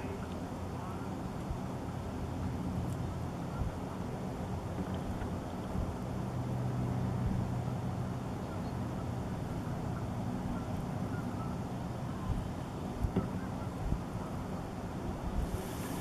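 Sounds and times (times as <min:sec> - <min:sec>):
low engine hum: 0:00.0 - 0:16.0
outdoor background noise: 0:00.0 - 0:16.0.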